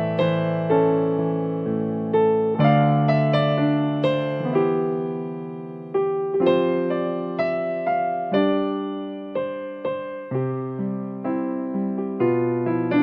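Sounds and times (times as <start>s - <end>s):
electric piano slow chords: 0.0s - 13.0s.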